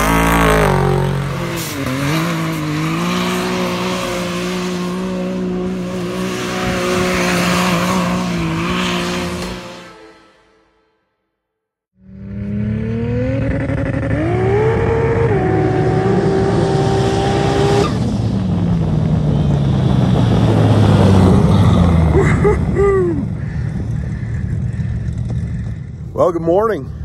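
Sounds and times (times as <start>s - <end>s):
utility vehicle engine revving: 0.0s - 10.5s, 12.0s - 26.0s.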